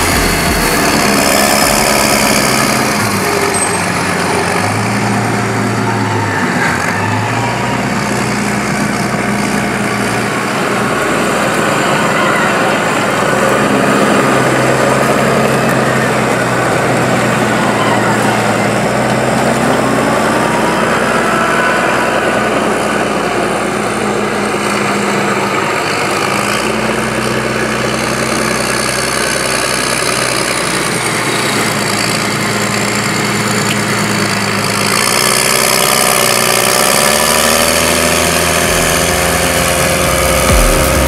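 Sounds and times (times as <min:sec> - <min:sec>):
diesel tractor engine running: 0:00.0 - 0:41.0.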